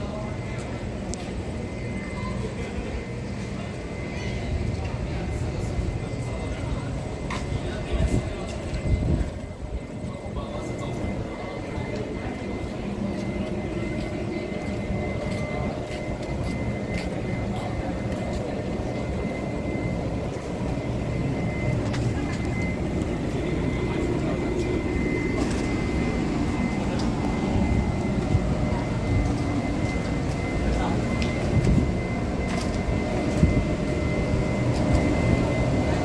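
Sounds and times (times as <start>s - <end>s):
thin high whine: 0.0s - 36.0s
train low rumble: 0.0s - 36.0s.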